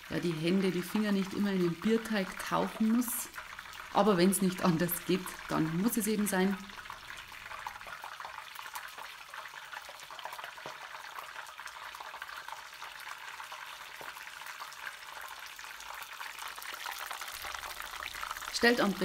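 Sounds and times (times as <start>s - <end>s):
batter deep-frying in oil: 0.0s - 19.0s.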